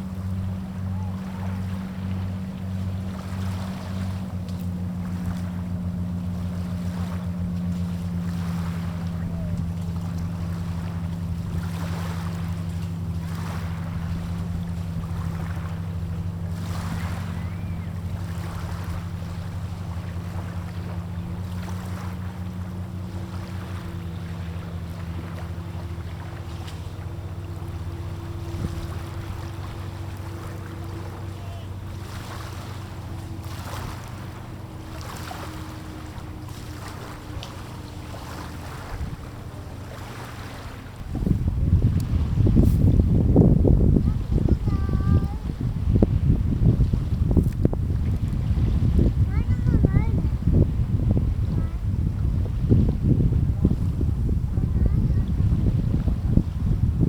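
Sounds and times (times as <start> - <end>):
water splashing: 0.0 - 54.0
boat motor humming: 0.0 - 57.0
wind gusting on microphone: 0.0 - 57.0.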